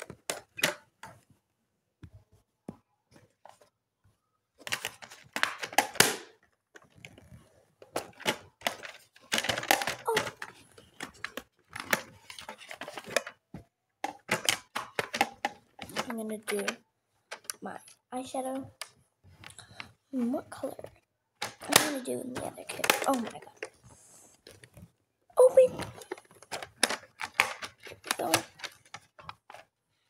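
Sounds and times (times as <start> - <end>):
plastic makeup case rustling and clicking: 0.0 - 1.2, 4.6 - 29.8.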